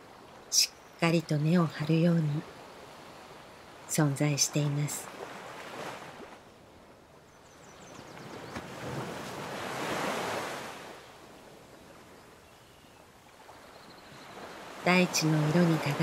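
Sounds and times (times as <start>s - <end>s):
gentle ocean surf: 0.0s - 16.0s.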